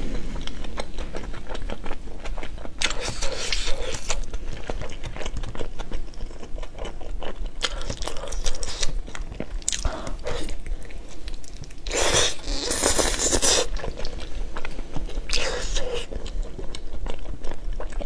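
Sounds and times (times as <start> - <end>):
biting and chewing meat: 0.0 - 18.0.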